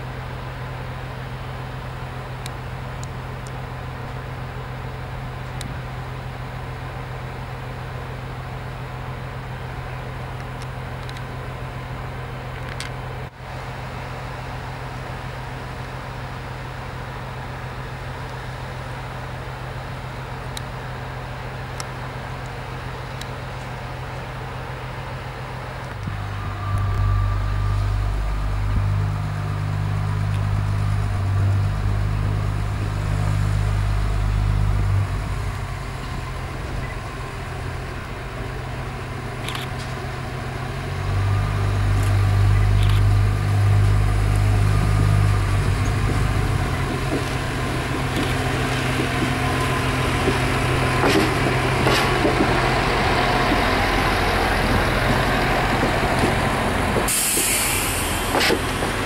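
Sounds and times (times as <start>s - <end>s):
diesel railcar engine hum: 0.0s - 59.0s
rolling wheel and rail noise: 0.0s - 59.0s.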